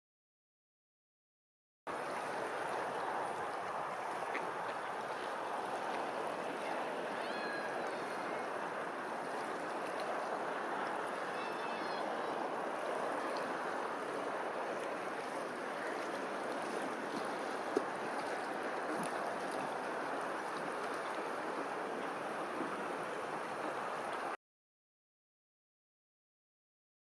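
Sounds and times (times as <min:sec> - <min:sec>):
flowing water rushing: 0:01.9 - 0:24.4.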